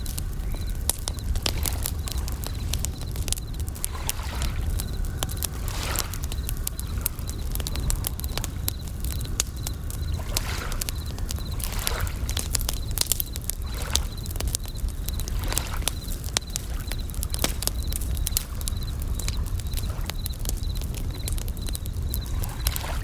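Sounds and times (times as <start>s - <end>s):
campfire crackling and popping: 0.0s - 23.0s
crickets trilling: 0.0s - 23.0s
waves washing in: 0.0s - 23.0s.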